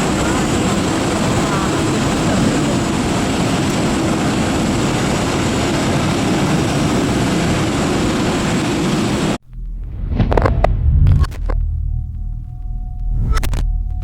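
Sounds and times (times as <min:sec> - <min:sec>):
jet engines roaring: 0:00.0 - 0:11.6
high engine whine: 0:00.0 - 0:14.0.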